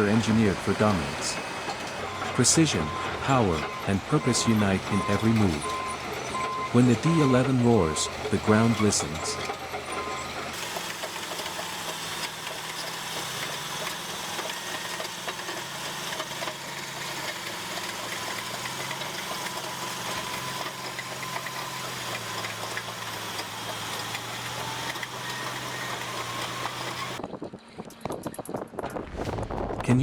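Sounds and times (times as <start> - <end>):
bulldozer diesel engine running: 0.0 - 27.2.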